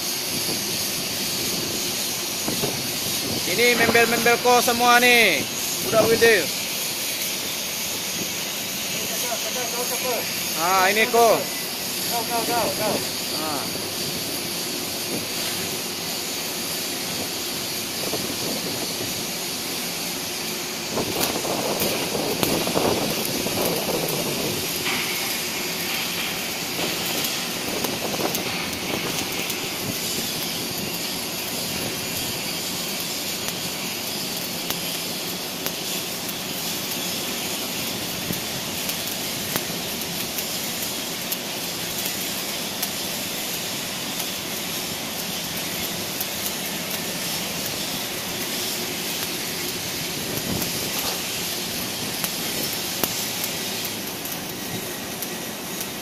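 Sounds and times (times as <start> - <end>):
welding arc crackling hiss: 0.0 - 56.0.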